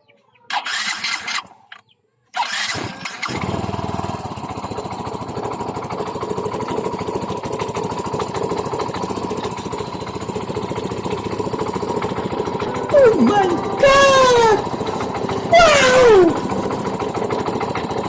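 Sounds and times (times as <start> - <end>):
scooter engine starting and idling: 0.3 - 18.0.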